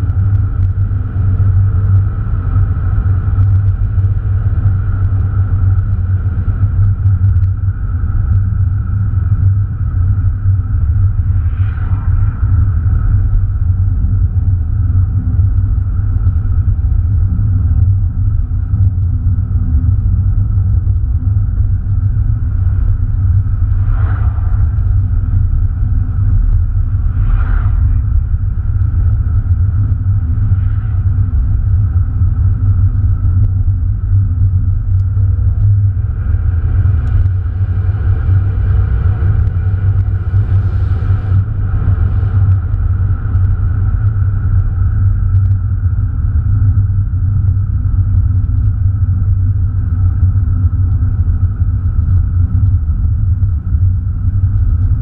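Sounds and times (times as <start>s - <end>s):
car engine and tyres droning: 0.0s - 55.0s.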